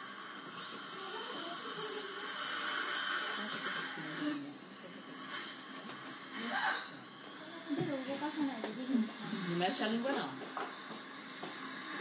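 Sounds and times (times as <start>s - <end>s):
dental handpiece whining: 0.0s - 12.0s.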